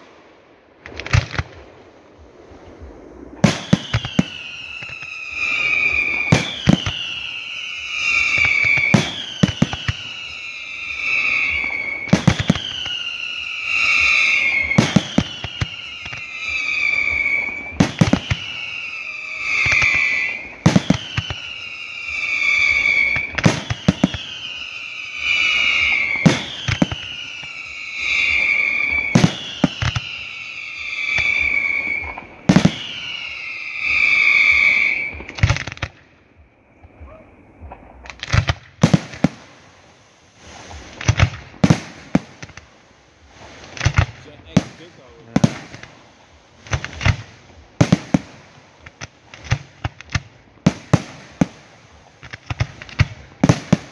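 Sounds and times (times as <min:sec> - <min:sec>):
falling firework whistle: 0:00.8 - 0:53.9.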